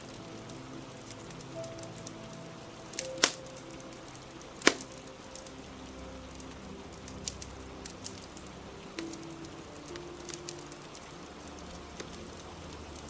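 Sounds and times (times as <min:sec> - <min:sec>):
fire crackling: 0:00.0 - 0:13.0
rain hiss: 0:00.0 - 0:13.0.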